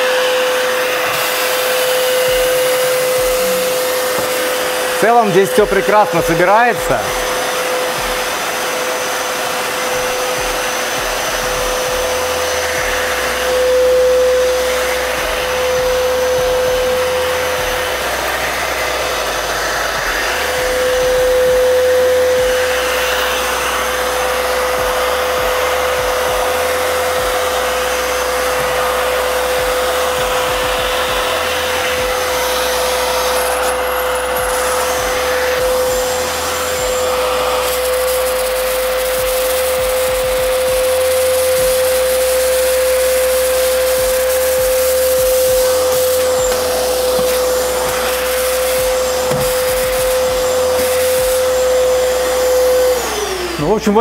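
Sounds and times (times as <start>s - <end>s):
vacuum cleaner motor whine: 0.0s - 54.0s.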